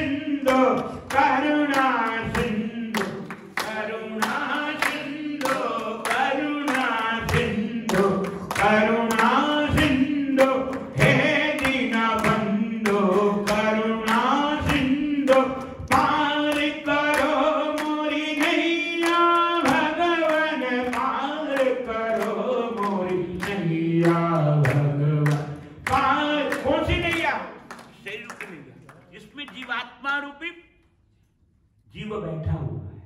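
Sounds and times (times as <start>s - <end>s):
group singing devotional chant: 0.0s - 27.4s
hands clapping in time: 0.5s - 30.0s.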